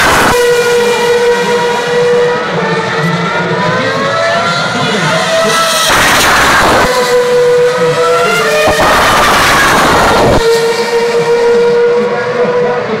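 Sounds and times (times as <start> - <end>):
race cars passing at speed: 0.0 - 13.0.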